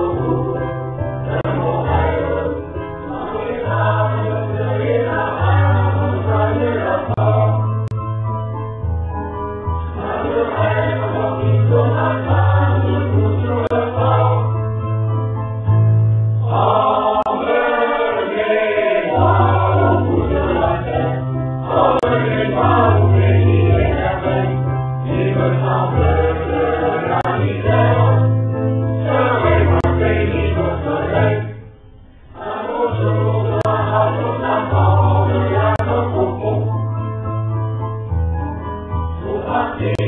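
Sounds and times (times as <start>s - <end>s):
choir singing: 0.0s - 8.0s, 9.9s - 14.7s, 16.4s - 36.7s, 39.2s - 40.0s.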